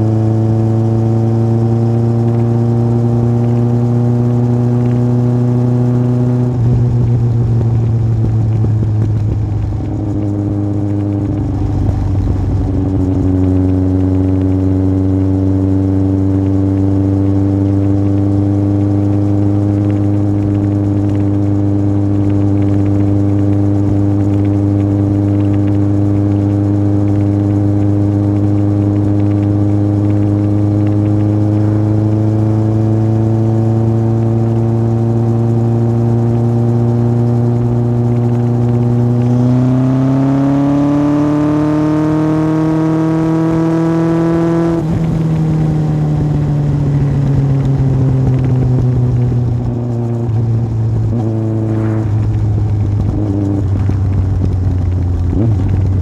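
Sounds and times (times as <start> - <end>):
motorcycle engine under way: 0.0 - 56.0.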